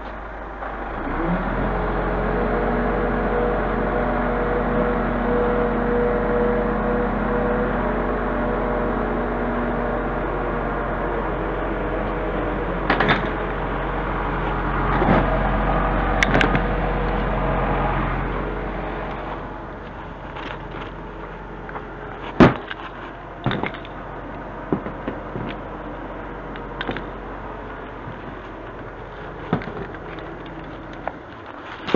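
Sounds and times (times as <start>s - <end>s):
diesel truck engine humming: 0.0s - 31.9s.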